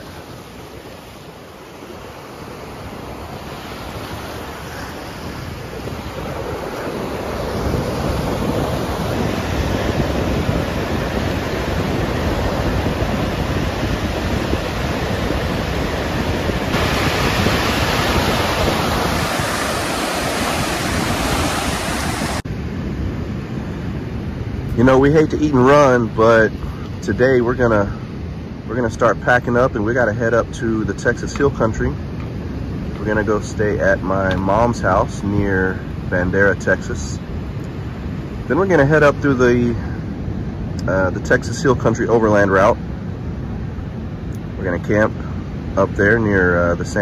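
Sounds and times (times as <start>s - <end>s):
ocean surf washing on beach: 0.0s - 47.0s
wind buffeting microphone: 0.0s - 47.0s.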